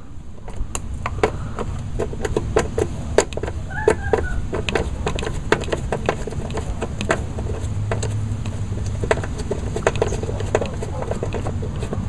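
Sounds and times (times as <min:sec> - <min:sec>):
ratchet clicking: 0:00.5 - 0:12.0.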